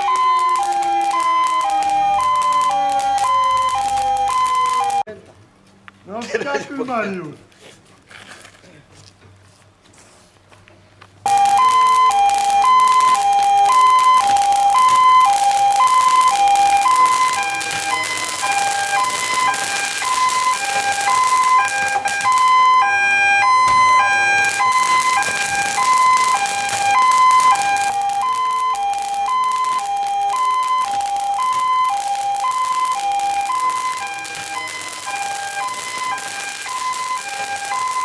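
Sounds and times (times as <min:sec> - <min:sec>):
firework crackles and hiss: 0:00.0 - 0:05.0, 0:11.2 - 0:38.0
fire engine two-tone siren: 0:00.0 - 0:05.1, 0:11.3 - 0:38.0.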